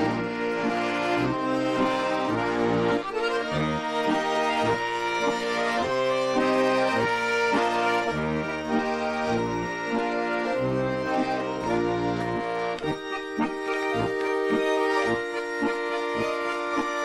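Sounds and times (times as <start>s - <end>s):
button accordion folk dance tune: 0.0s - 17.0s.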